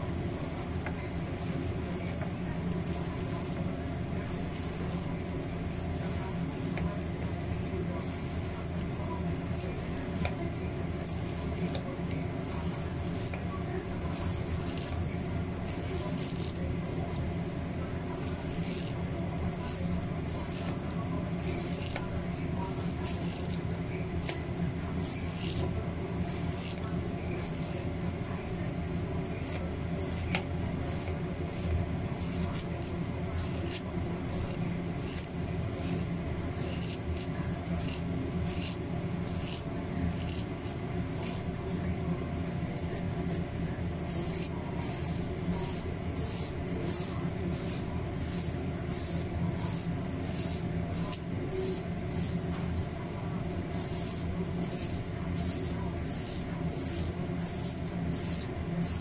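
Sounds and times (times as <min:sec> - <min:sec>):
steady low hum: 0:00.0 - 0:59.0
knife scraping corn cob: 0:00.1 - 0:02.2, 0:02.8 - 0:03.6, 0:04.2 - 0:06.9, 0:08.0 - 0:10.4, 0:11.0 - 0:13.4, 0:14.0 - 0:17.3, 0:18.2 - 0:24.4, 0:25.0 - 0:27.9, 0:29.2 - 0:41.8, 0:42.7 - 0:52.6, 0:53.7 - 0:59.0.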